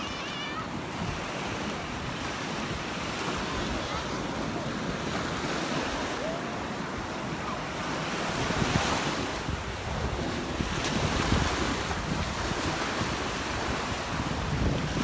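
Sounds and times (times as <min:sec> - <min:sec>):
ocean surf on sandy beach: 0:00.0 - 0:15.0
wind gusting on microphone: 0:00.0 - 0:15.0.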